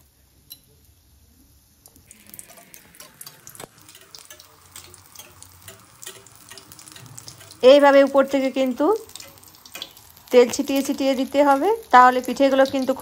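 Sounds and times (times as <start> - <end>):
fritter sizzling in hot oil: 0.0 - 13.0.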